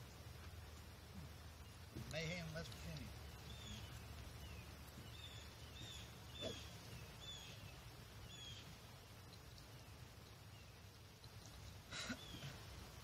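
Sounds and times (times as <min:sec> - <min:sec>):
bird calling faintly: 0:00.0 - 0:12.7
low outdoor rumble: 0:00.0 - 0:13.0.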